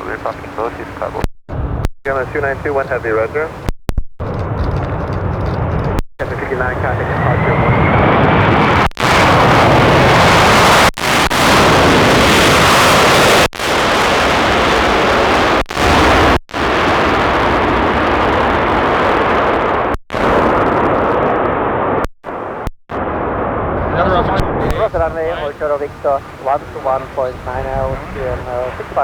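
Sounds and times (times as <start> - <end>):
jet airliner roaring: 0.0 - 16.8, 22.3 - 29.0.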